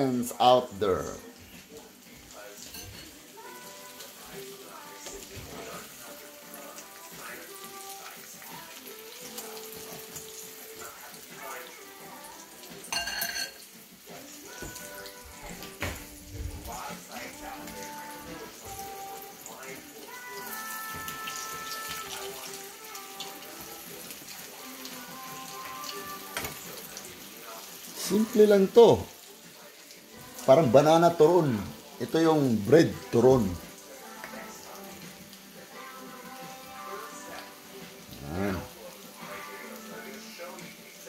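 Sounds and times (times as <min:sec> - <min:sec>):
background music: 0:00.0 - 0:41.0
oil sizzling and crackling: 0:00.0 - 0:41.0.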